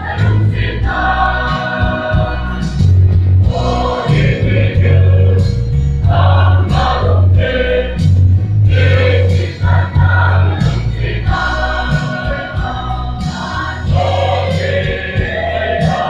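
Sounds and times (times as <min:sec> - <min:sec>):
deep bass line: 0:00.0 - 0:16.0
mixed choir singing gospel: 0:00.0 - 0:16.0.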